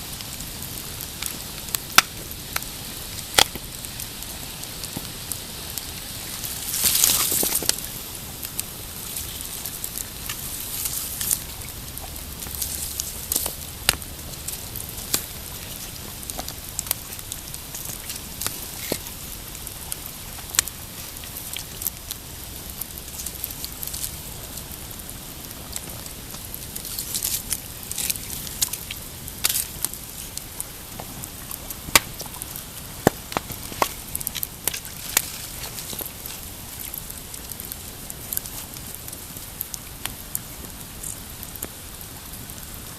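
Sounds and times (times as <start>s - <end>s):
campfire crackling: 0.0s - 42.9s
sharp pops of fire: 0.1s - 41.8s.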